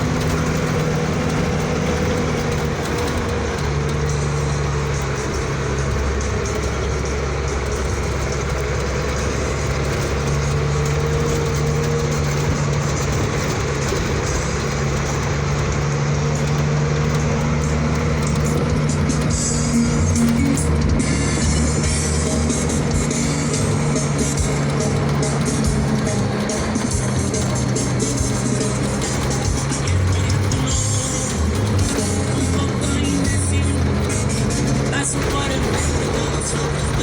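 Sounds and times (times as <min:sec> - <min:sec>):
road noise: 0:00.0 - 0:37.0
truck engine running: 0:00.0 - 0:37.0.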